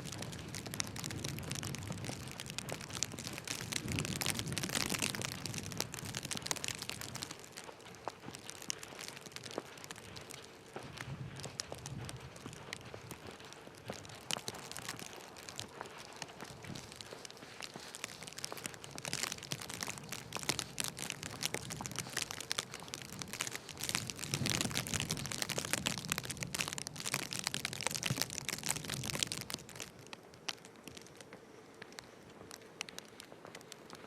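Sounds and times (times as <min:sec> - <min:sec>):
footsteps crunching in snow: 0:00.0 - 0:31.2.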